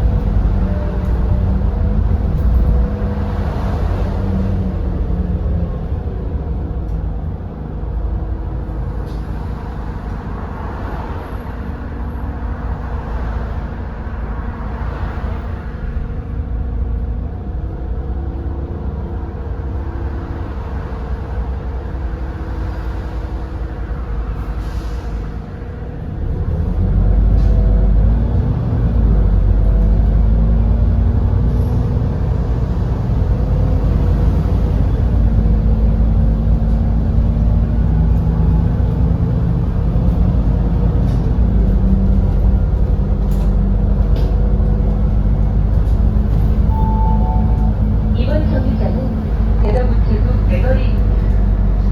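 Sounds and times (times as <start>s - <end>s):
bus engine running: 0.0s - 51.9s.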